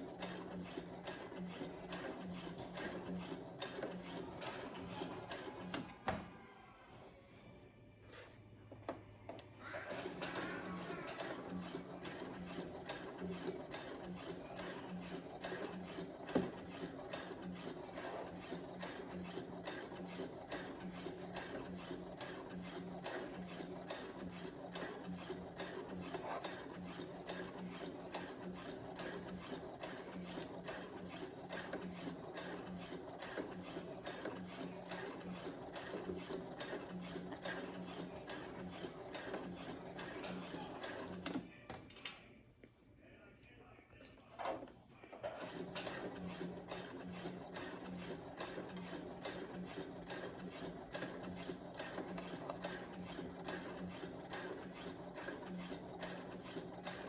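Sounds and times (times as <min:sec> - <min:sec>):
sewing machine needle ticking: 0:00.0 - 0:05.8, 0:09.9 - 0:41.4, 0:45.4 - 0:57.0
sewing machine motor hum: 0:00.0 - 0:06.4, 0:08.8 - 0:41.7, 0:44.4 - 0:57.0.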